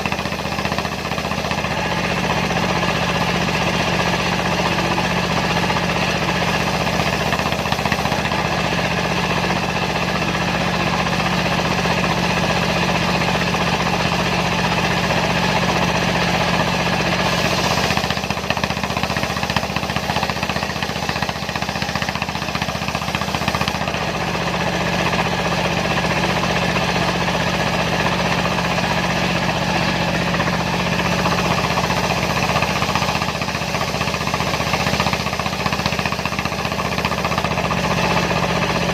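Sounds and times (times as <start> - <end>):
circular saw cutting logs: 0.0 - 38.9
diesel engine running under load: 0.0 - 38.9.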